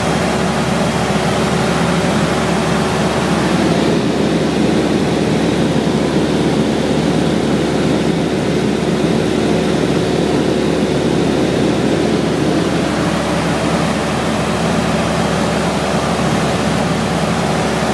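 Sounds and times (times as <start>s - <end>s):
propeller engine drone: 0.0s - 17.9s.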